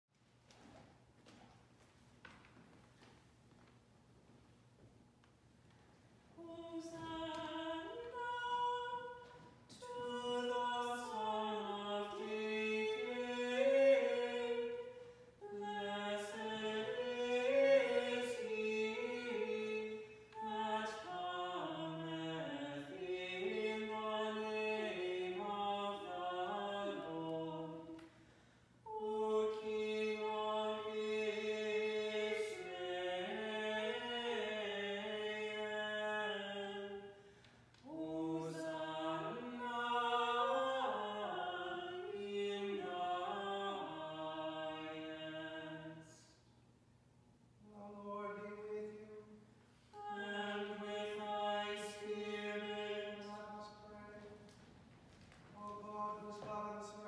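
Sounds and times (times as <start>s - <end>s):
unaccompanied liturgical singing: 6.3s - 46.5s, 47.6s - 57.0s.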